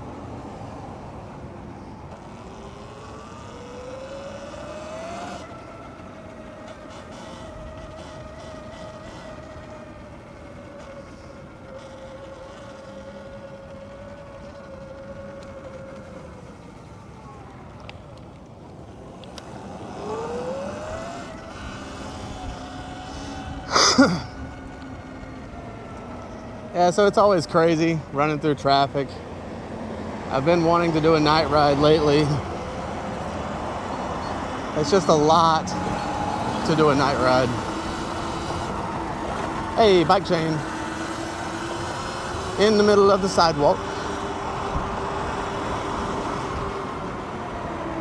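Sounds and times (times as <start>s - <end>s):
electric motor whining: 0.0s - 48.0s
wind and road noise: 0.0s - 48.0s.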